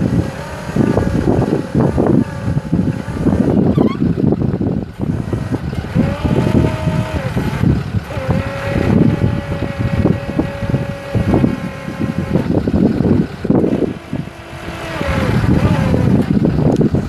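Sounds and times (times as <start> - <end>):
hydraulic whine: 0.0 - 17.0
wind buffeting microphone: 0.0 - 17.0.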